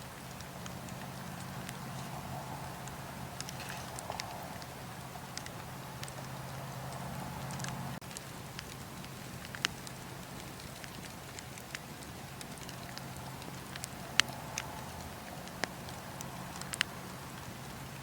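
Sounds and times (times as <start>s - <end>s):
burning wood snapping and popping: 0.0s - 18.0s
fire hissing softly: 0.0s - 18.0s.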